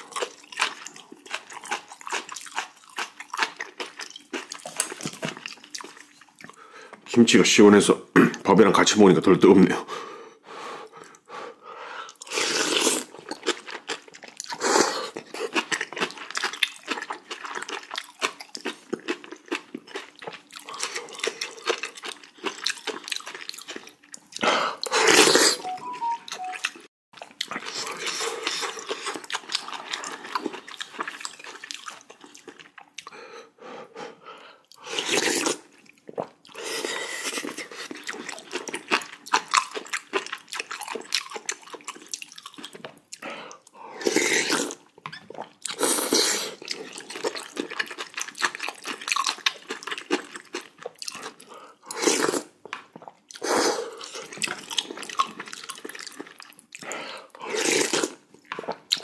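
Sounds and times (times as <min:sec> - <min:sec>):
crunching kimchi: 0:00.0 - 0:06.8, 0:12.1 - 0:26.5, 0:27.2 - 0:33.2, 0:34.8 - 0:59.0
chewing: 0:00.0 - 0:07.0, 0:12.1 - 0:33.2, 0:34.7 - 0:59.0
slurping noodle soup: 0:09.9 - 0:18.4, 0:19.1 - 0:26.5, 0:27.4 - 0:59.0.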